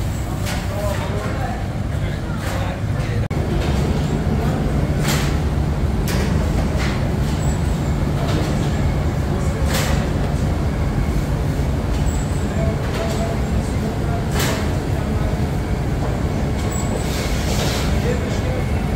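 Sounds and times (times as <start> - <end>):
low mechanical rumble: 0.0 - 17.2.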